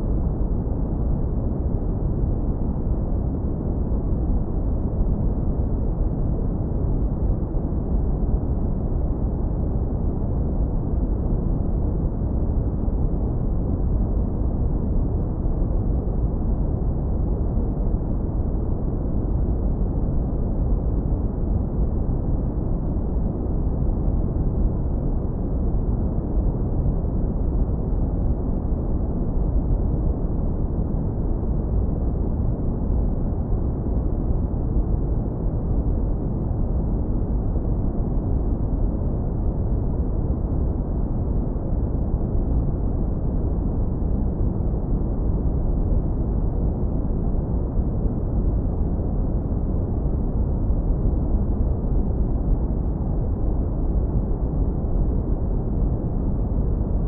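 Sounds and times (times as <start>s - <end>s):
deep brown noise rumble: 0.0s - 57.0s.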